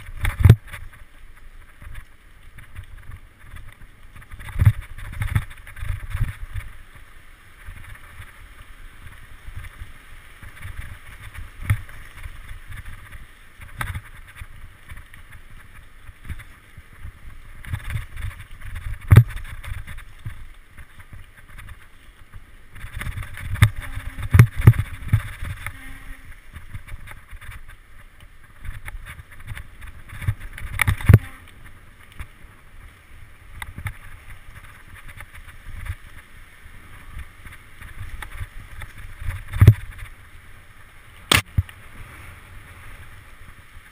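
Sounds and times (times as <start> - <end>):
bike knocking and rattling: 0.0 - 32.5, 33.4 - 40.2, 41.3 - 41.7
bike tyre rumble: 0.0 - 43.9
wind rush on microphone: 0.0 - 43.9.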